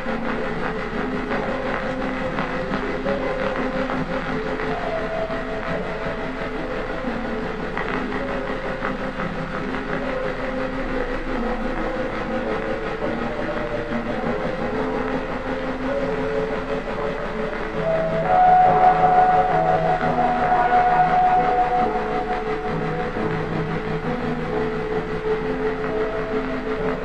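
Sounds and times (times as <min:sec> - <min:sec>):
hazy ambient music: 0:00.0 - 0:27.0.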